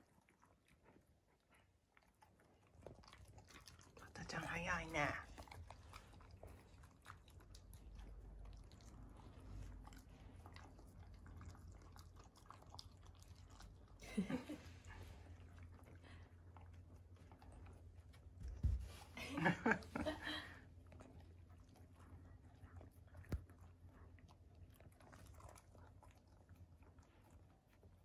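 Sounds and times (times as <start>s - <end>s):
dogs chewing and crunching: 0.0s - 28.0s.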